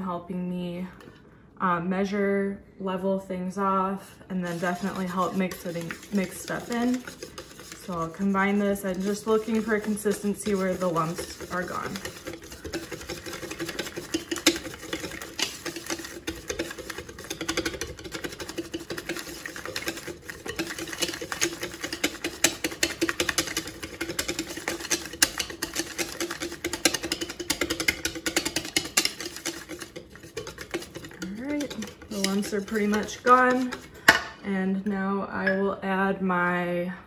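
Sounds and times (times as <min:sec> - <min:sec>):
whisk clicking against bowl: 0:04.5 - 0:34.3.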